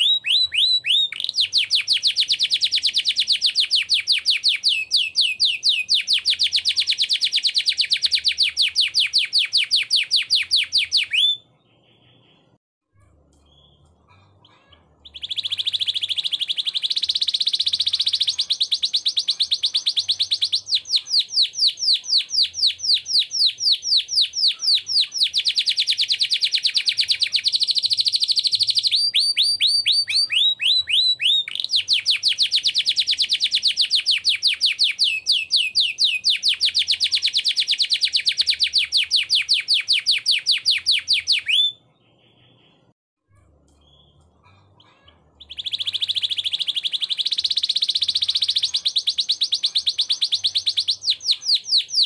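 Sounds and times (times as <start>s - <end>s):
canary singing trills: 0.0s - 52.0s.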